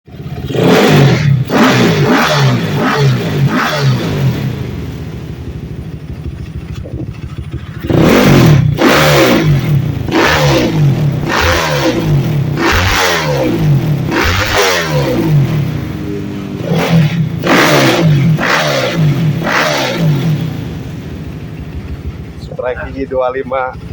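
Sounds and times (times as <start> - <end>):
motorcycle engine revving: 0.1 - 23.9.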